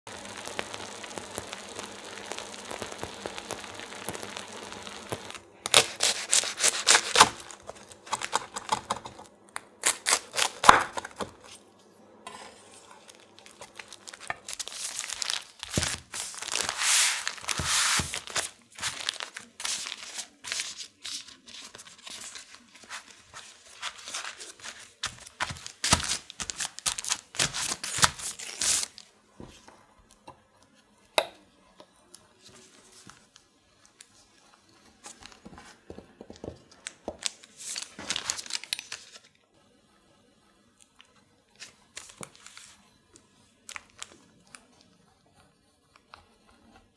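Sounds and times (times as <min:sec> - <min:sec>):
faint steady hiss: 0:00.1 - 0:46.9
parchment paper crinkling: 0:00.3 - 0:29.7, 0:32.4 - 0:39.4, 0:41.0 - 0:46.9.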